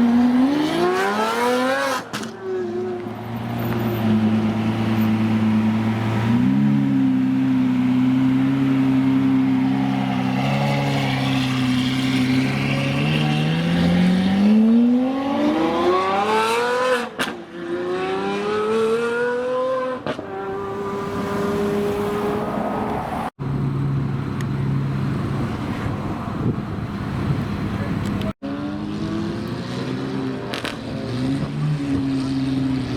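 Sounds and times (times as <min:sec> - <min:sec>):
car engine revving with upshifts: 0:00.0 - 0:23.3, 0:27.3 - 0:32.9.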